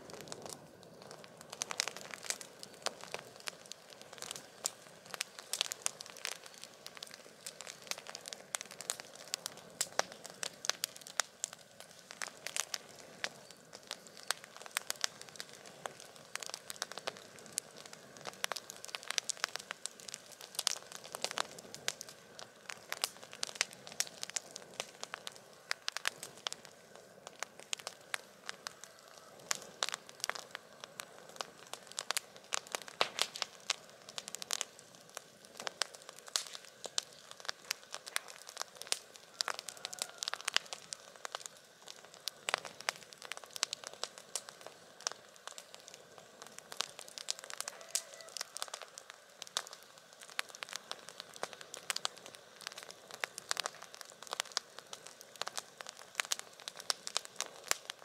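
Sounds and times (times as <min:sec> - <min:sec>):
campfire crackling: 0:00.0 - 0:58.0
soft hiss: 0:00.0 - 0:58.0.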